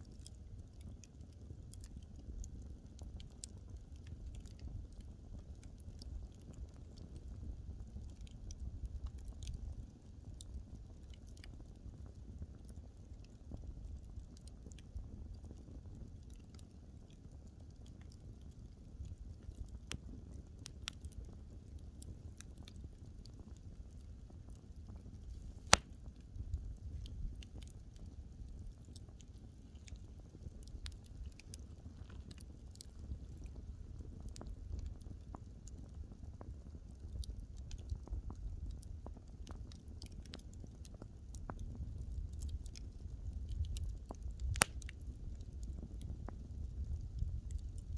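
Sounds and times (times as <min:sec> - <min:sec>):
burning wood crackling and popping: 0:00.0 - 0:47.9
wood fire burning: 0:00.0 - 0:47.9.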